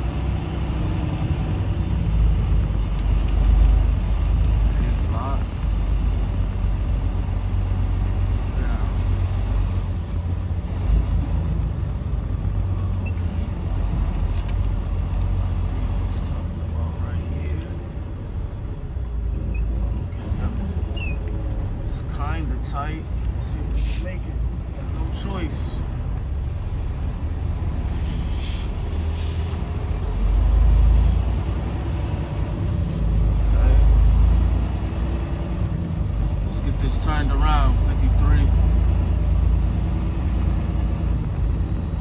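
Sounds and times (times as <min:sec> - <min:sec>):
truck diesel engine drone: 0:00.0 - 0:42.0.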